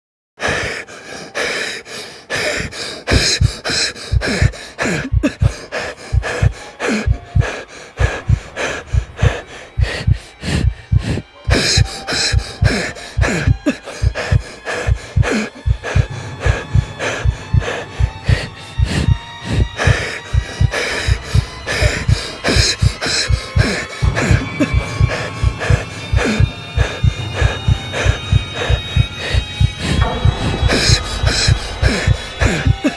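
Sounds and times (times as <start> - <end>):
person breathing fast and hard: 0.4 - 30.0.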